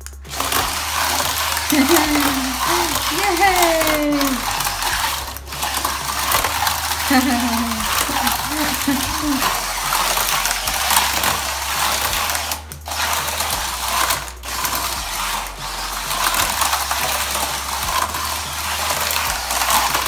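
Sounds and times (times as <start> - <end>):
toy car motor whirring: 0.0 - 20.0
toy car rattling in plastic tube: 0.0 - 20.0.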